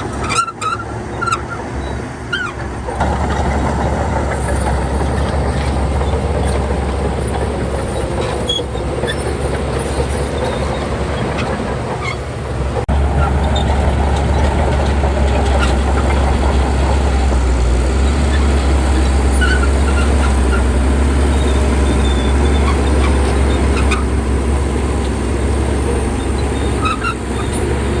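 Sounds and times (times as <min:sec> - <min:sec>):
bulldozer diesel engine rumbling: 0:00.0 - 0:28.0.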